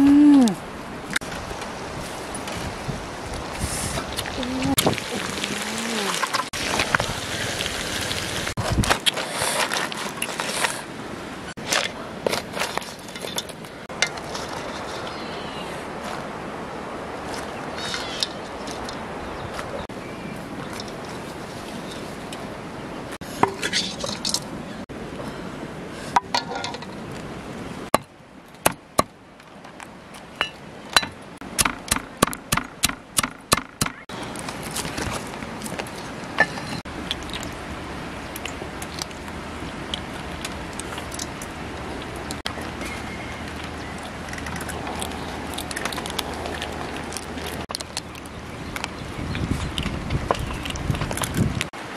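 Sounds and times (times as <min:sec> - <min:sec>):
steady outdoor hiss: 0:00.0 - 0:51.9.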